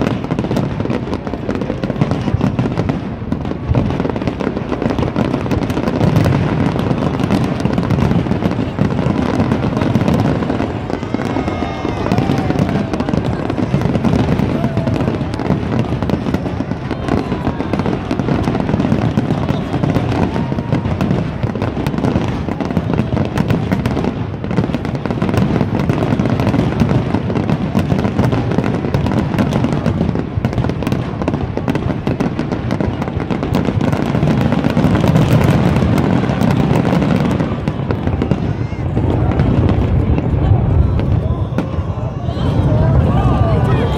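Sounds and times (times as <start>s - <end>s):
fireworks crackling and bangs: 0.0s - 43.9s.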